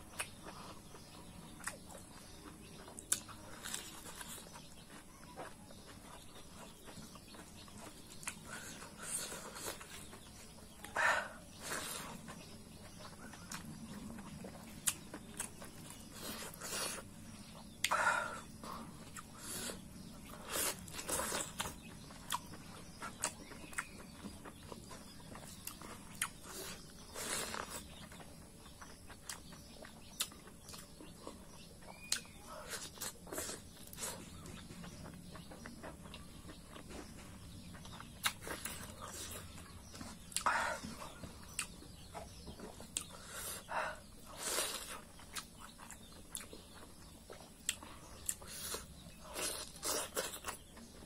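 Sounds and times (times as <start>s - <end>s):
chewing: 0.0s - 51.0s.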